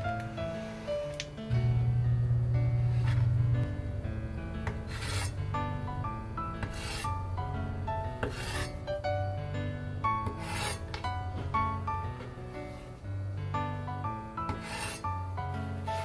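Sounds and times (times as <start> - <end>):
background music with bass: 0.0 - 16.0.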